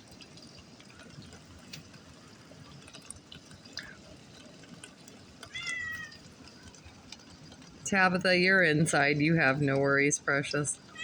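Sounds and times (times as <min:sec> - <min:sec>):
drips and splatters: 0:00.0 - 0:11.0
faint hiss of rainfall: 0:00.0 - 0:11.0.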